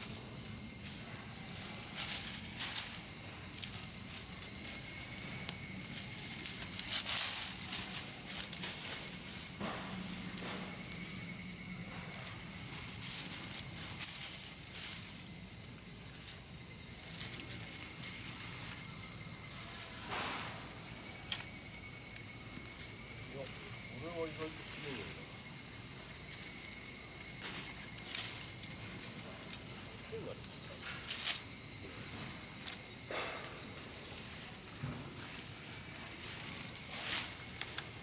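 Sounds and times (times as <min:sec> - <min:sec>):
insects chorus: 0:00.0 - 0:38.0.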